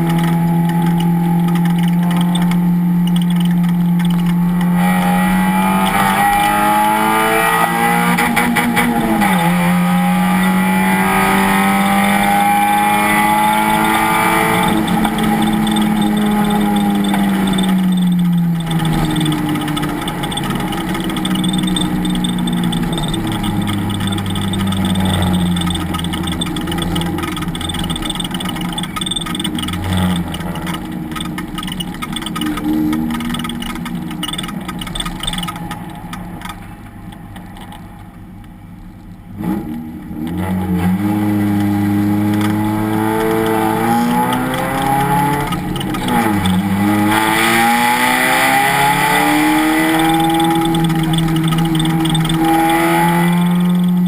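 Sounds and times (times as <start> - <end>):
race car engine revving: 0.0 - 36.8, 39.4 - 54.0.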